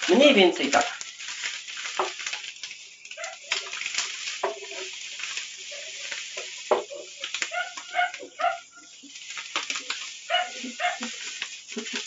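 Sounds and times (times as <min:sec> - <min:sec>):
grain pouring into water: 0:00.0 - 0:12.0
wooden spoon stirring in pot: 0:00.0 - 0:12.0.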